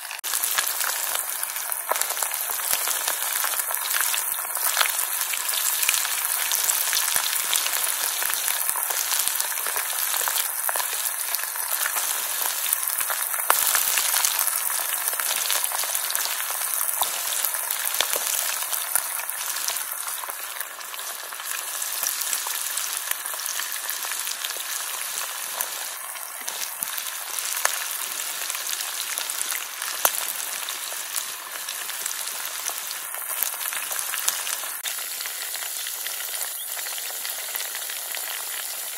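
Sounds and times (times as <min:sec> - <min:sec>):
chicken sizzling in hot oil: 0:00.0 - 0:38.9.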